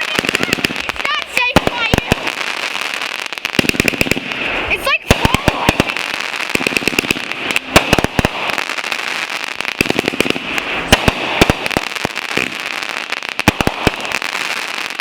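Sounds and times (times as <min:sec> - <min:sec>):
fireworks cracking and popping: 0:00.0 - 0:15.0
fireworks hissing crackle: 0:00.0 - 0:15.0.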